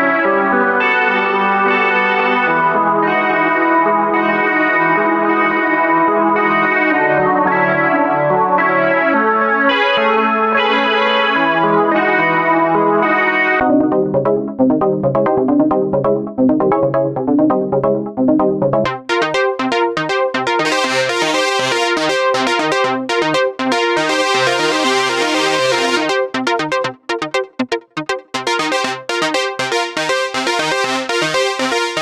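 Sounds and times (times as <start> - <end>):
sequenced synth notes and chords: 0.0 - 32.0.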